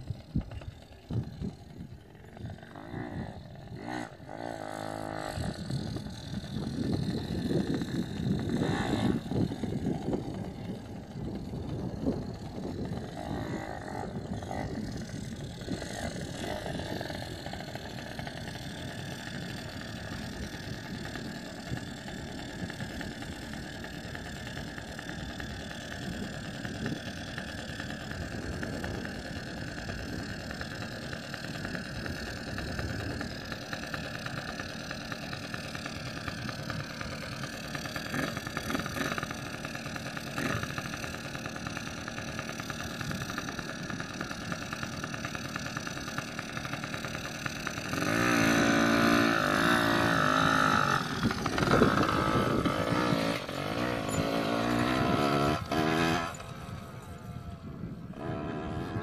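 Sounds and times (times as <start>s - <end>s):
dirt bike engine idling and revving: 0.0s - 59.0s.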